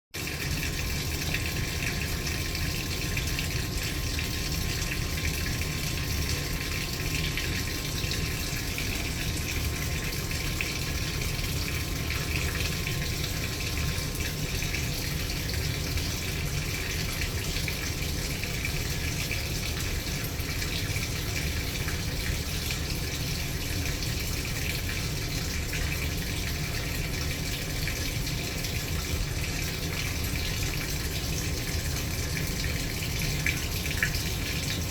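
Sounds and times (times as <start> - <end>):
water pouring into washing machine: 0.2 - 34.9.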